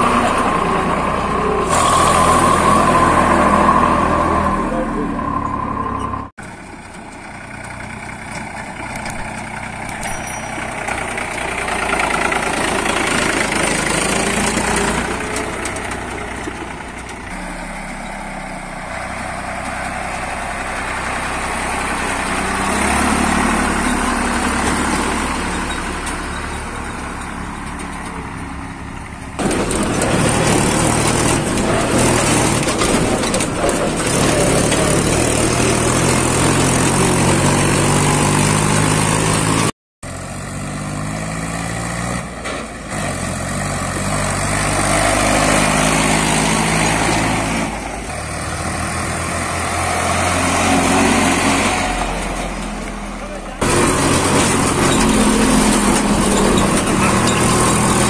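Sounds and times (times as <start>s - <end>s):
diesel tractor engines running: 0.0s - 58.0s
tractor engine revving: 0.0s - 58.0s.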